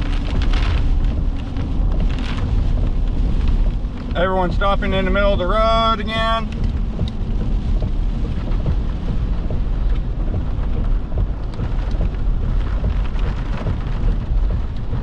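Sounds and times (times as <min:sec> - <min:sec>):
rain and wind against vehicle: 0:00.0 - 0:15.0
raindrops tapping: 0:00.0 - 0:15.0.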